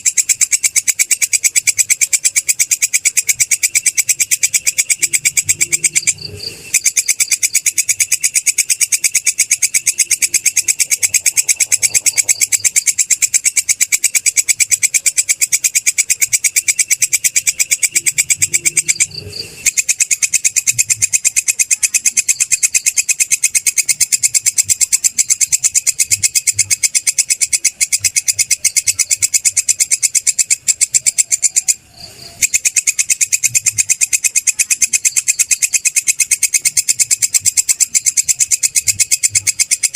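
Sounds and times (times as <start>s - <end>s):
katydid stridulating: 0.0s - 39.9s.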